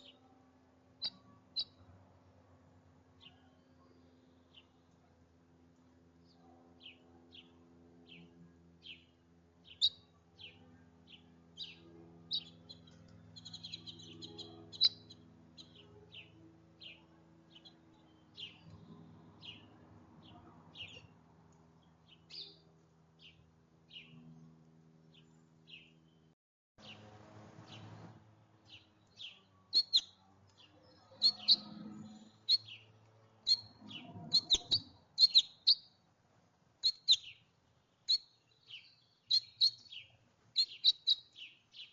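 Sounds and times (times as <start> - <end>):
faint low hum: 0.0 - 41.9
songbird chirping: 6.3 - 24.3, 25.1 - 36.1, 36.8 - 41.9.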